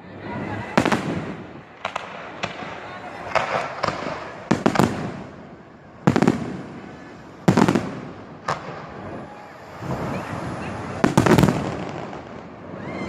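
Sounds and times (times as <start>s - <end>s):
fireworks booming: 0.6s - 13.0s.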